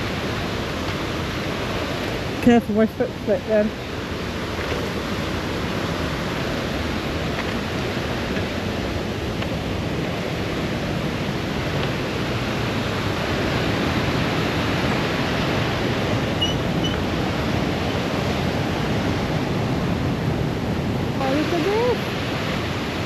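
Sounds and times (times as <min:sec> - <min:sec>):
mountain torrent roaring: 0:00.0 - 0:23.0.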